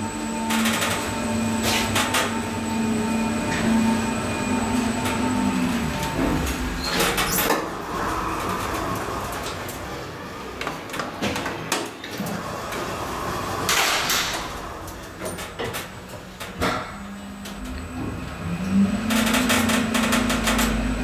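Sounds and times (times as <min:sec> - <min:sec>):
elevator doors sliding: 0:00.0 - 0:21.0.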